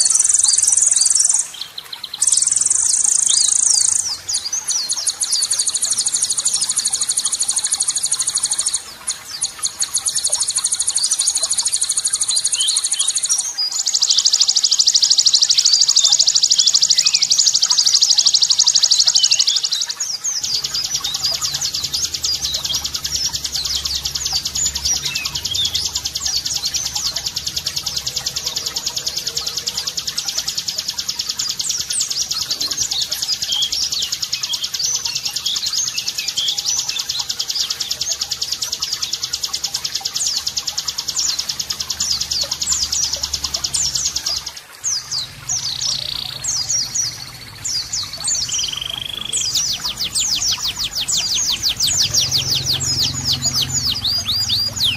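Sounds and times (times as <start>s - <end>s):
bird chirps: 0.0s - 54.9s
songbirds trilling: 0.0s - 54.9s.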